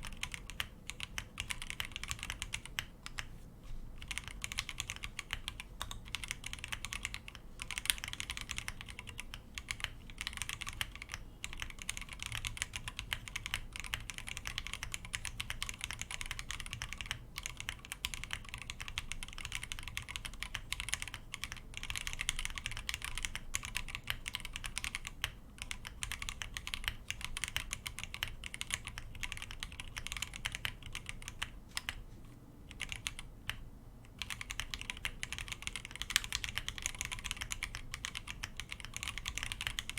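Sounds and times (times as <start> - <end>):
mechanical keyboard typing: 0.0 - 3.3, 4.0 - 32.0, 32.7 - 39.9.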